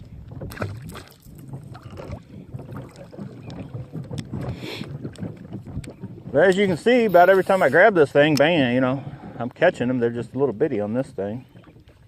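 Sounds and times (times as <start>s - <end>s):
water lapping: 0.0s - 12.0s
wind buffeting microphone: 0.0s - 12.0s.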